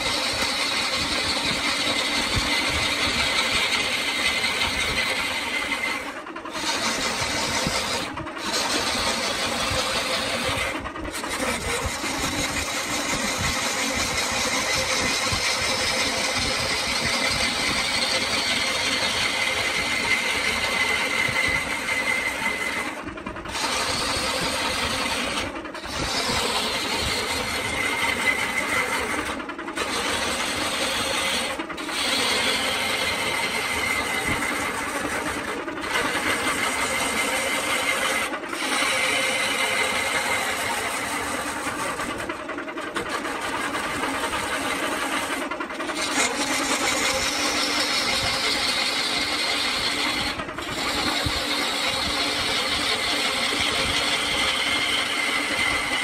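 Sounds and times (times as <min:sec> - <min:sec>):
turning tool scraping wood: 0:00.0 - 0:56.0
wood lathe motor whining: 0:00.0 - 0:56.0.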